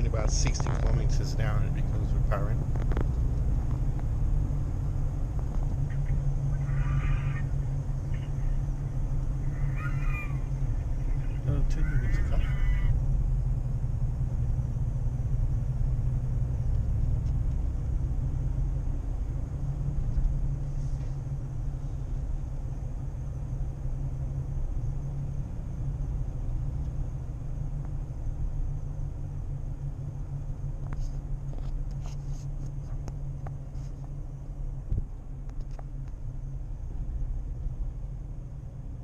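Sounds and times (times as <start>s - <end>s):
truck cab rumble and drone: 0.0s - 39.0s.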